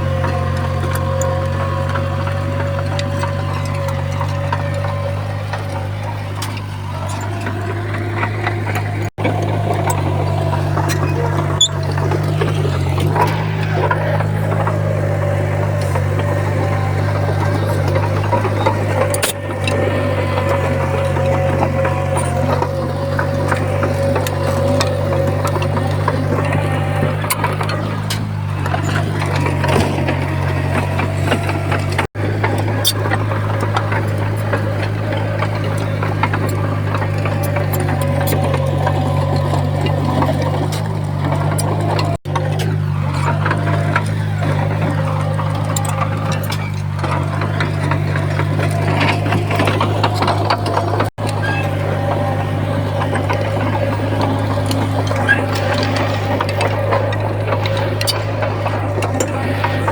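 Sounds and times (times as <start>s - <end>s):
bulldozer diesel engine running: 0.0s - 59.9s
machine clanking and rattling: 0.0s - 59.9s.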